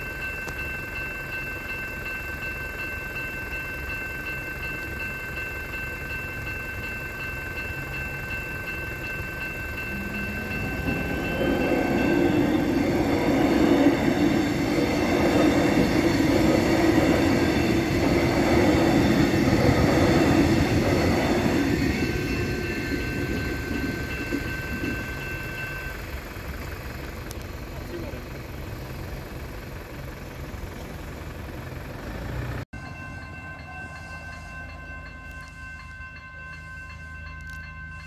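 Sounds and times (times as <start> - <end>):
crossing warning bells: 0.0 - 38.0
electric train passing: 0.0 - 38.0.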